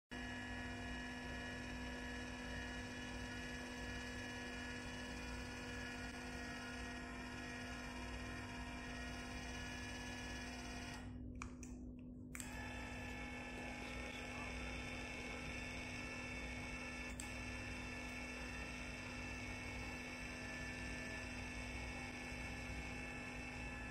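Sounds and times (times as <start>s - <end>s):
electric actuator motor humming: 0.1s - 11.2s, 12.3s - 23.9s.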